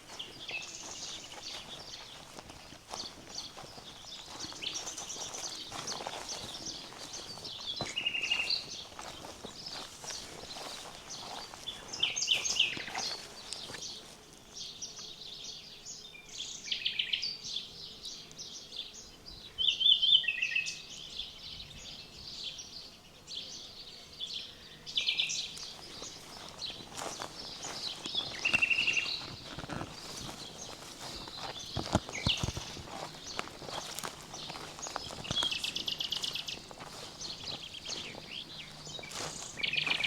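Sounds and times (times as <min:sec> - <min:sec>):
faint outdoor background: 0:00.0 - 0:40.0
songbirds singing and calling: 0:00.0 - 0:40.0.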